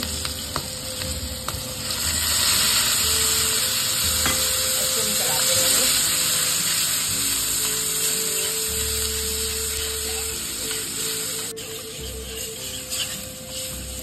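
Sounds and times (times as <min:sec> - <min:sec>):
chillies sizzling in hot oil: 0:00.0 - 0:14.0
spatula stirring: 0:01.8 - 0:14.0.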